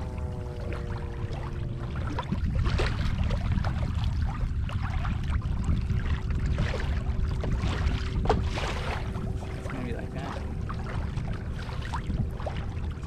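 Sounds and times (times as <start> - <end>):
steady low rumble: 0.0 - 13.0
water lapping against kayak hull: 0.0 - 13.0.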